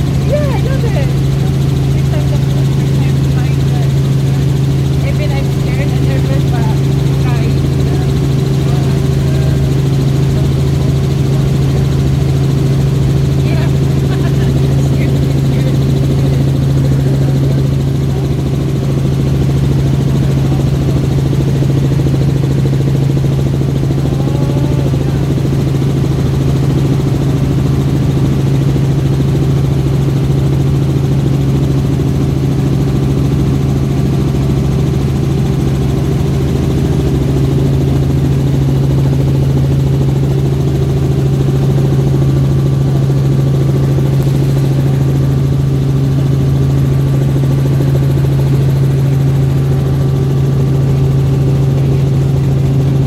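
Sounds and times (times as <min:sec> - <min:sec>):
helicopter engine and rotors: 0:00.0 - 0:53.0.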